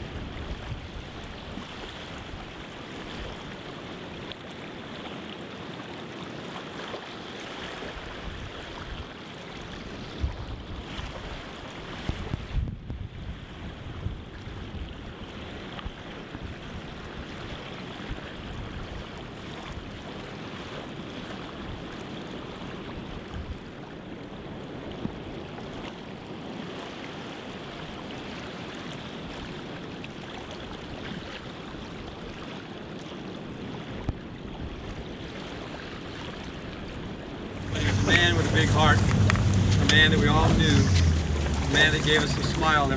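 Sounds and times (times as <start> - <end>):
wind and water rushing: 0.0 - 42.9.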